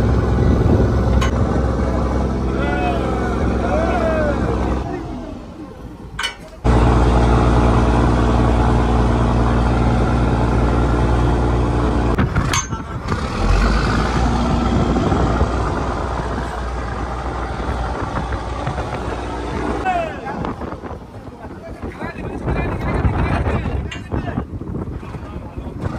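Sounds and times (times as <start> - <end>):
boat engine humming: 0.0 - 21.9.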